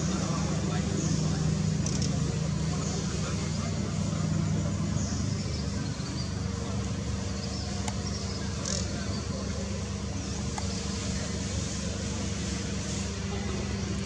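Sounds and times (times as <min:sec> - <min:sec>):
low outdoor background rumble: 0:00.0 - 0:14.0.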